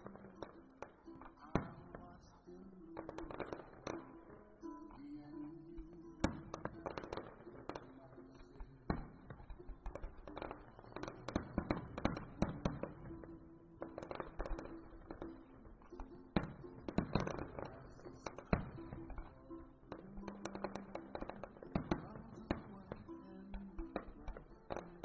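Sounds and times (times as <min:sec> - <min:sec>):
distant fireworks bursting: 0:00.0 - 0:25.0
faint music: 0:00.0 - 0:25.0.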